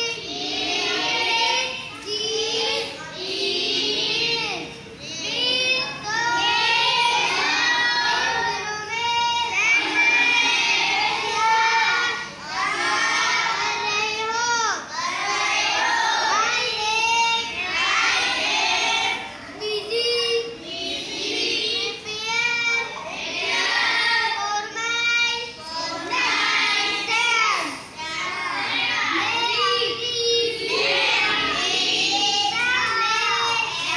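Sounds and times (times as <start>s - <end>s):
children chanting aloud: 0.0s - 33.9s.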